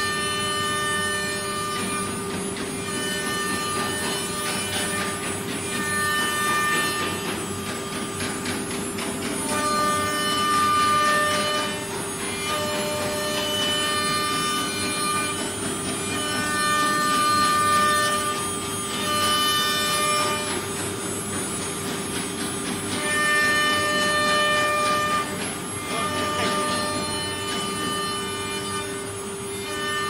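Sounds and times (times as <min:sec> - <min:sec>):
bit cutting wood whine: 0:00.0 - 0:30.0
router spindle whine: 0:00.0 - 0:30.0.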